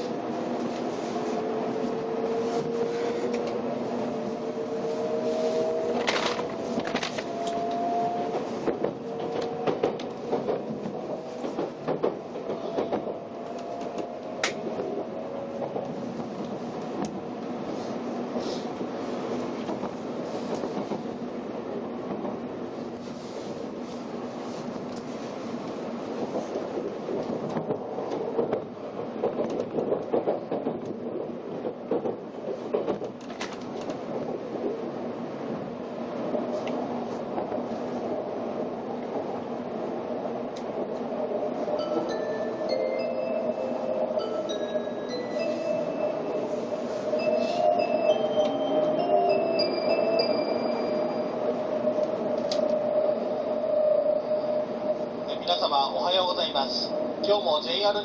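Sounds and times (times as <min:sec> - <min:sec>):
train running rumble: 0:00.0 - 0:53.8.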